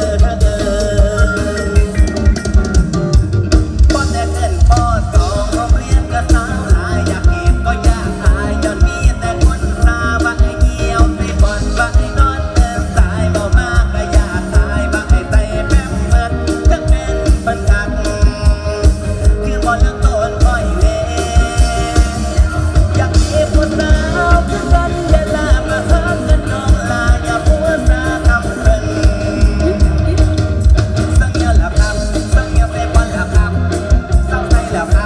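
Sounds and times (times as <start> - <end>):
person singing: 0.0 - 3.2, 3.8 - 35.0
backing instruments: 0.0 - 35.0
fast bass drum beat: 0.0 - 35.0.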